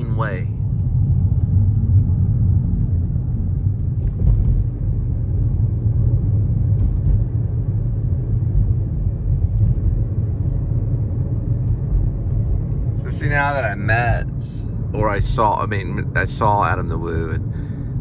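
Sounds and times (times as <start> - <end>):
car driving rumble inside cabin: 0.0 - 18.0.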